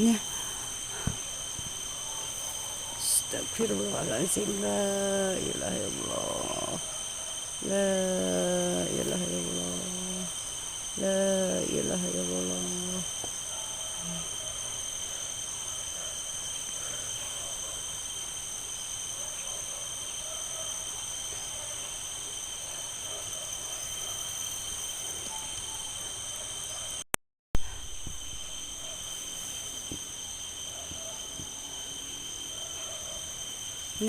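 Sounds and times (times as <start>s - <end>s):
crickets and insects chirring: 0.0s - 27.0s, 27.6s - 34.0s.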